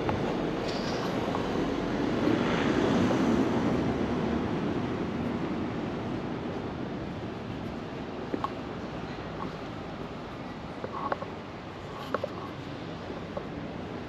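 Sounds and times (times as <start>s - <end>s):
steady rushing street noise: 0.0s - 14.0s.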